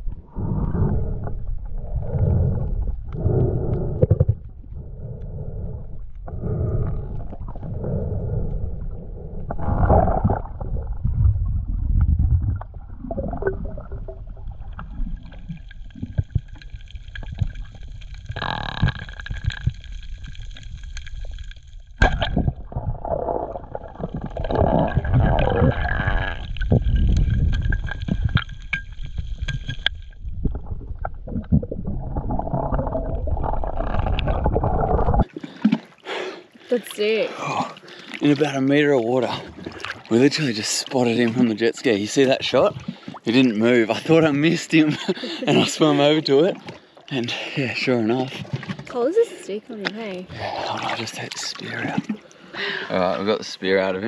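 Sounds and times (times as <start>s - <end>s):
underwater sloshing and rumbling: 0.0s - 54.0s.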